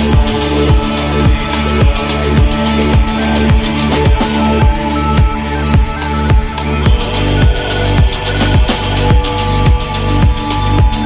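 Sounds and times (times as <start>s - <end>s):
electronic dance music: 0.0s - 11.0s
heavy kick drum: 0.0s - 11.0s.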